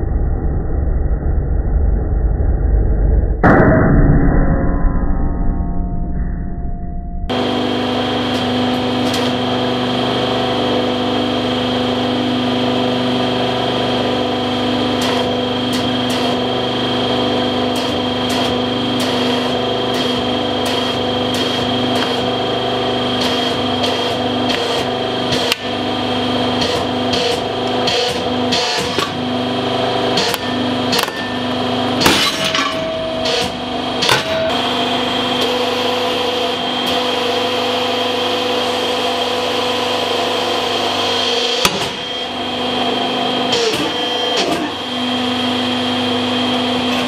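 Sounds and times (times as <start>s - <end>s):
hydraulic press hum and whine: 0.0s - 47.0s.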